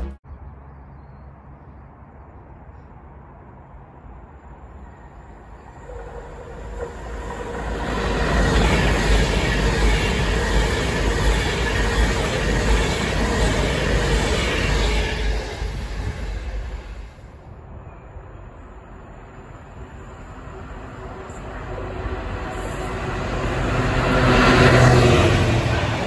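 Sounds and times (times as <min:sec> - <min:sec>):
passenger train passing: 0:03.2 - 0:26.0.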